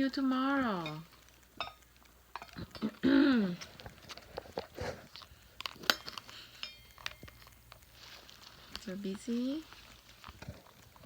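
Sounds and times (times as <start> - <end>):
bird chewing and crunching: 0.1 - 11.0.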